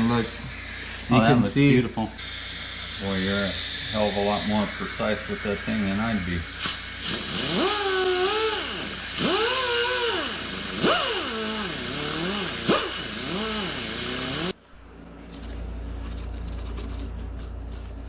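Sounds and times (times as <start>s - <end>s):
rotary grinder whining: 0.0s - 14.6s.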